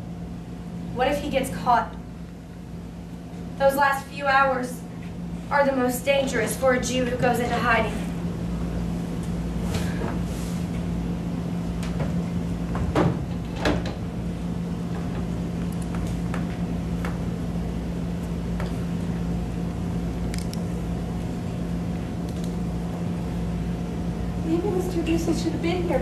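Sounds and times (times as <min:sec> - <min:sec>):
room hum: 0:00.0 - 0:26.0.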